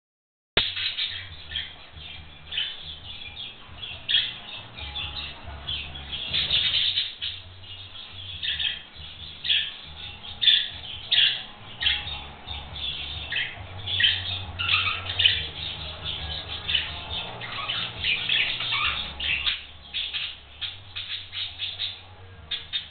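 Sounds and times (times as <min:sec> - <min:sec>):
budgerigars chirping and squawking: 0:00.6 - 0:22.9.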